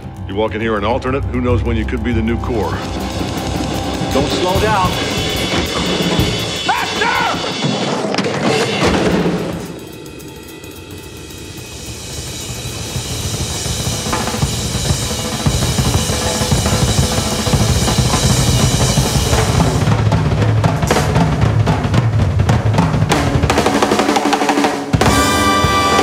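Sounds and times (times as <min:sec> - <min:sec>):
fast jazz drum solo: 0:02.2 - 0:10.5, 0:11.1 - 0:26.0.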